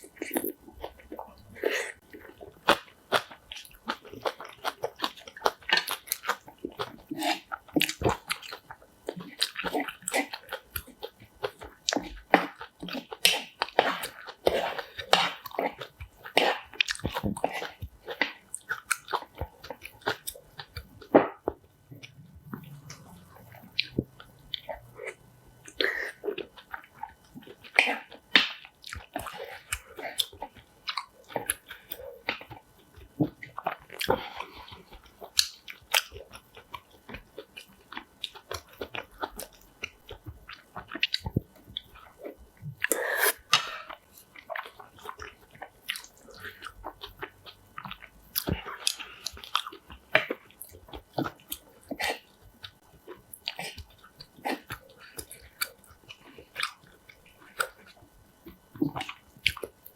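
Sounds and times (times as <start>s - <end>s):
person chewing crisp food: 0.0s - 59.9s.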